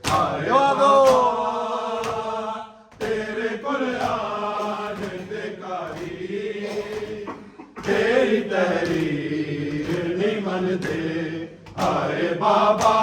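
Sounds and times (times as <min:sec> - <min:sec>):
mourners chanting in unison: 0:00.0 - 0:13.0.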